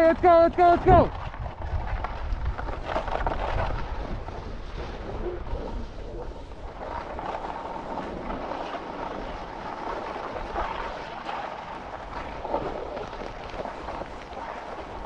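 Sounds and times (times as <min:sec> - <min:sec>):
skis scraping over snow: 0:00.0 - 0:15.0
wind on microphone: 0:00.0 - 0:15.0.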